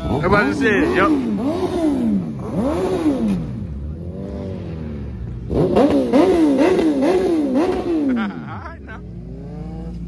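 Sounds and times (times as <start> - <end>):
engine revving: 0.0 - 10.0.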